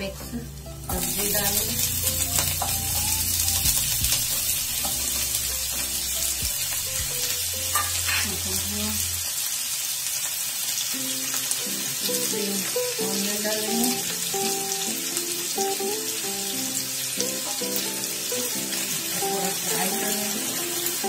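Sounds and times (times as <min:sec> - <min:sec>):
background music melody: 0:00.0 - 0:09.3, 0:10.9 - 0:21.0
vegetables sizzling in hot oil: 0:00.0 - 0:21.0.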